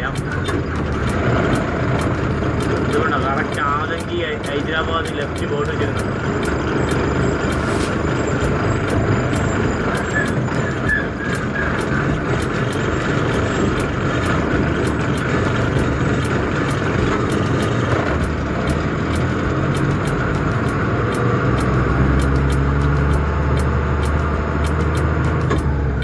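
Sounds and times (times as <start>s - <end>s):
light rattling ticks: 0.0s - 26.0s
truck engine and road rumble: 0.0s - 26.0s.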